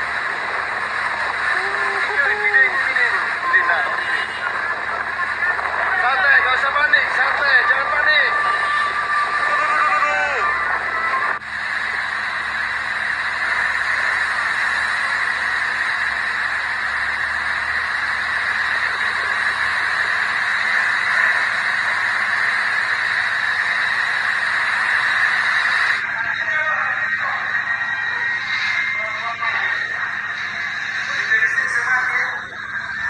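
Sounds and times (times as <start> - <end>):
faint voices: 0.0 - 11.5, 13.3 - 33.0.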